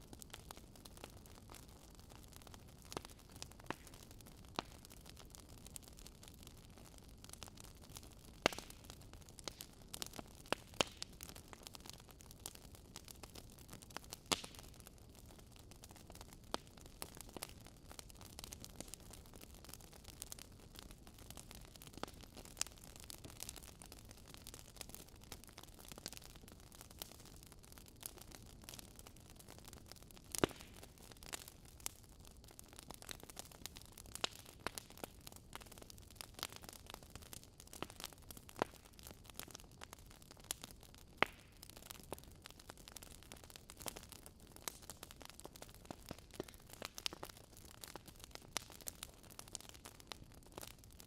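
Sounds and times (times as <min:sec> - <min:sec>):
fire crackling: 0:00.0 - 0:51.0.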